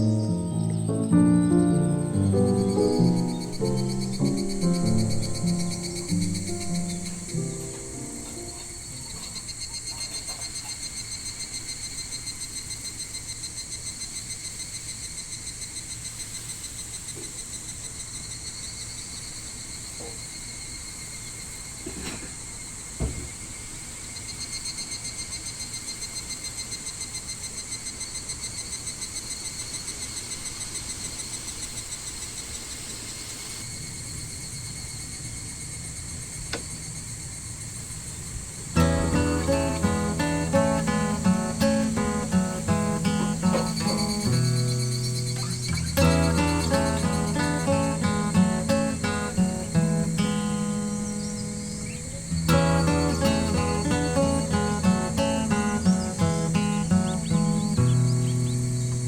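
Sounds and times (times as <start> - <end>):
insects shrilling: 0.0 - 21.8, 22.4 - 59.0
fast pulsing insect call: 0.0 - 59.0.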